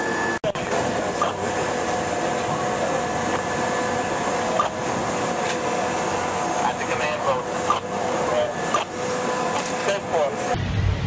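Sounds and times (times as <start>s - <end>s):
machine hum with tones: 0.0s - 11.0s.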